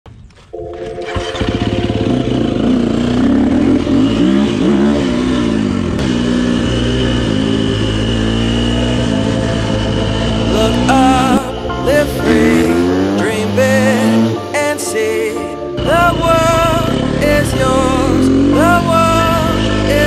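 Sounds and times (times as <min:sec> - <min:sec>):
dirt bike engine revving: 0:00.8 - 0:14.7, 0:15.8 - 0:20.0.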